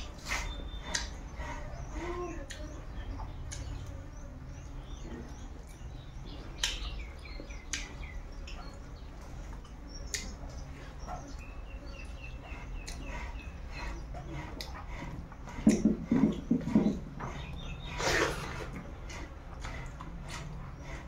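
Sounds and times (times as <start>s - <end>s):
chewing with mouth clicks: 2.4s - 21.0s.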